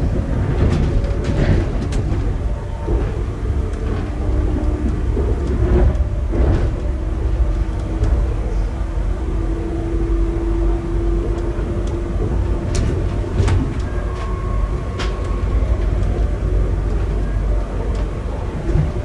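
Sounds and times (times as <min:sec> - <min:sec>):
faint steady hum: 0:00.0 - 0:19.0
train wheels rumbling on rails: 0:00.0 - 0:19.0
wheels clicking over track: 0:00.0 - 0:19.0.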